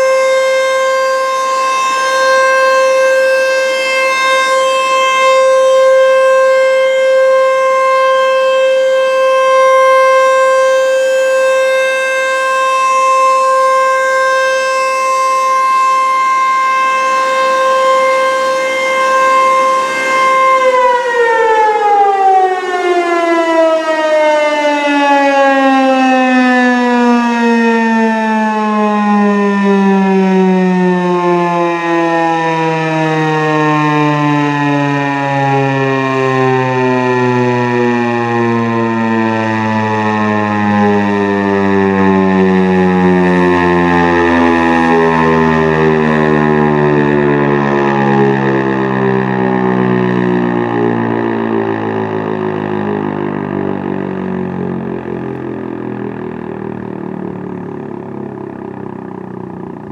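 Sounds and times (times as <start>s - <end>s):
warning siren winding down: 0.0s - 59.9s.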